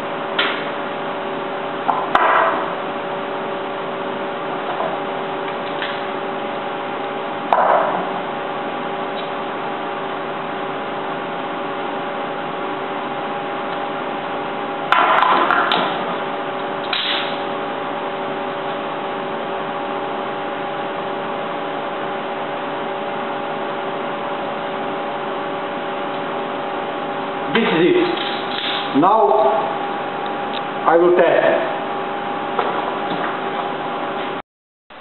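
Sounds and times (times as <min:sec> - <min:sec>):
background hum with hiss: 0:00.0 - 0:34.4.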